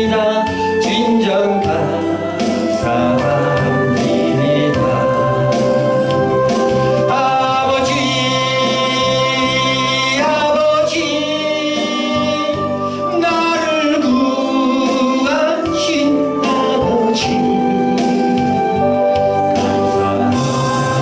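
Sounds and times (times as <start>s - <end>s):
person singing long notes: 0.0s - 21.0s
sustained organ chords: 0.0s - 21.0s.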